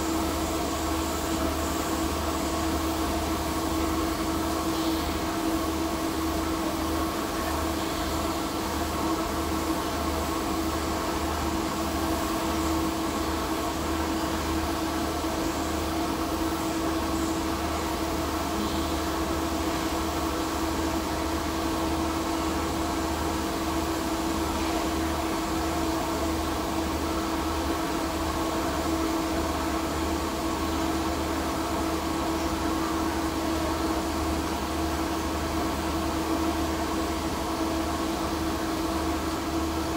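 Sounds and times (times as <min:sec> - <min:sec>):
constant hum: 0:00.0 - 0:39.9.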